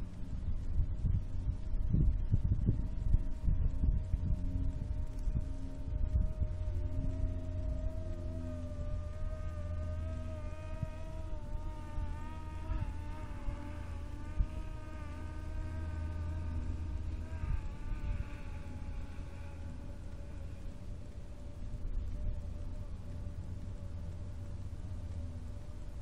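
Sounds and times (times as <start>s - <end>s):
drone propellers buzzing: 0.0s - 26.0s
wind rumble on microphone: 0.0s - 26.0s.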